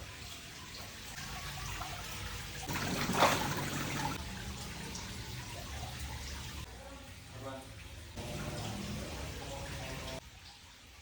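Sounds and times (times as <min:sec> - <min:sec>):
water trickling and pouring: 0:00.0 - 0:11.0.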